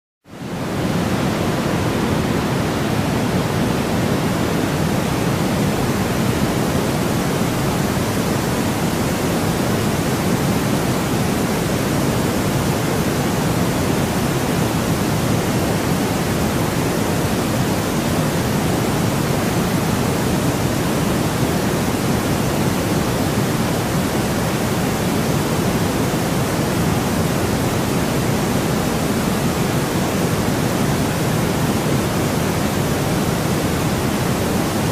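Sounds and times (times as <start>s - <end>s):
white noise hiss: 0.3s - 34.9s.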